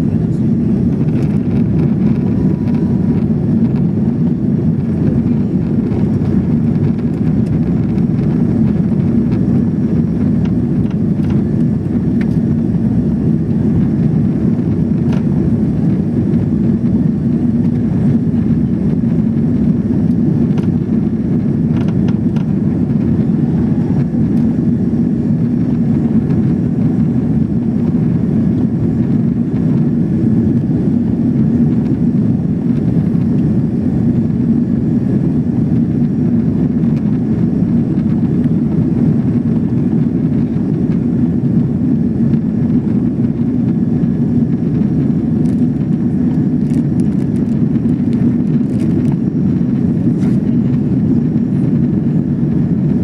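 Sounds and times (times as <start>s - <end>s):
jet engines rumbling: 0.0s - 53.0s
rushing air: 0.0s - 53.0s.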